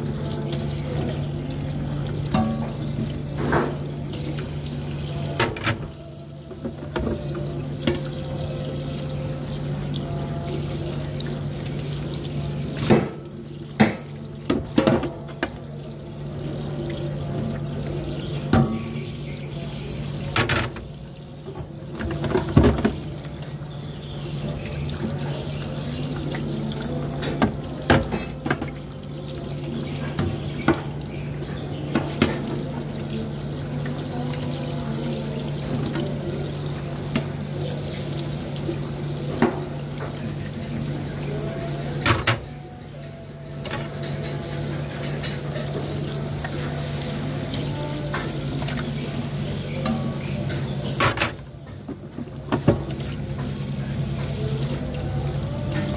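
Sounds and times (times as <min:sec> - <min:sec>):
tap water running into sink: 0:00.0 - 0:42.6, 0:43.6 - 0:55.9.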